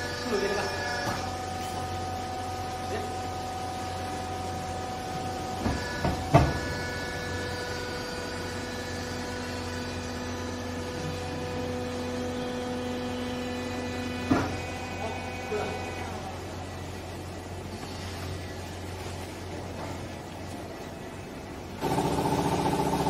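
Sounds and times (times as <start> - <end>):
hydraulic pump motor whine: 0.0 - 23.0.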